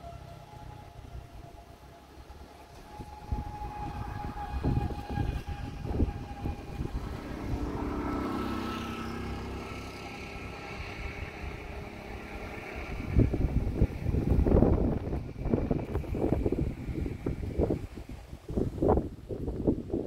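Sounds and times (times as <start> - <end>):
distant motor vehicle passing: 0.0 - 19.7
wind buffeting microphone: 0.0 - 20.0.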